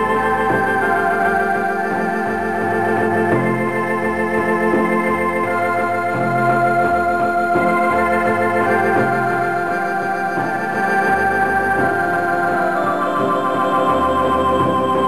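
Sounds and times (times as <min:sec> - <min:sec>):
electronic organ chords: 0:00.0 - 0:15.0.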